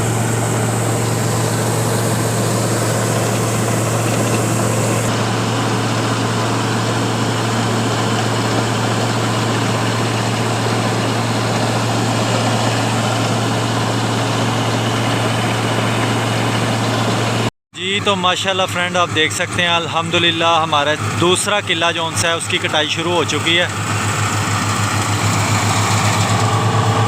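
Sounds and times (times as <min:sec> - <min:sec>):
combine harvester engine drone: 0:00.0 - 0:27.0.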